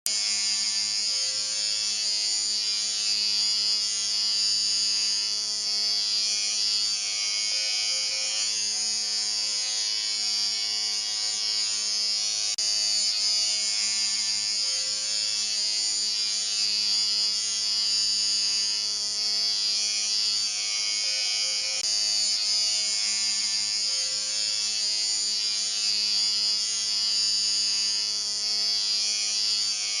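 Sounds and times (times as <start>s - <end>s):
electric shaver buzzing: 0.1s - 30.0s.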